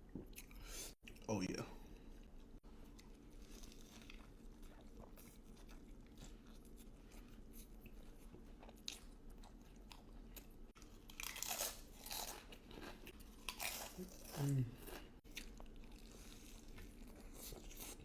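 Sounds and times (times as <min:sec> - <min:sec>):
person chewing crunchy food: 0:02.2 - 0:18.0.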